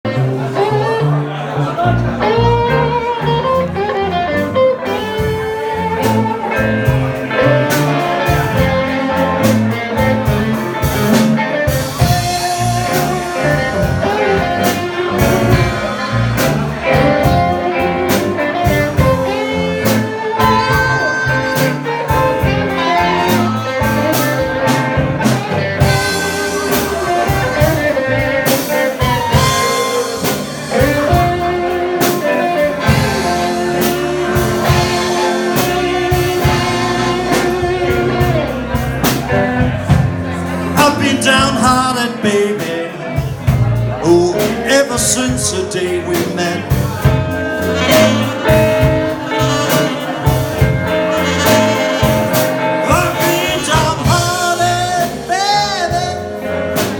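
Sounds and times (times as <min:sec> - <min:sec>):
blues band playing: 0:00.0 - 0:56.9
lead guitar bending notes: 0:00.1 - 0:56.9
drums keeping a beat: 0:02.0 - 0:56.9.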